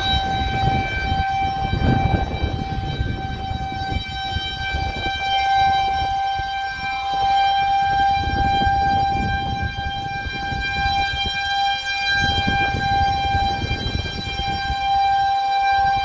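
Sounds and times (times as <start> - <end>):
rotating warning siren steady tone: 0.0 - 16.0.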